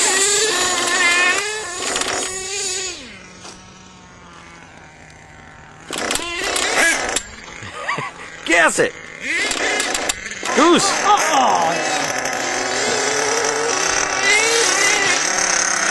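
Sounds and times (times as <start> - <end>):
model truck engine revving: 0.0 - 15.9.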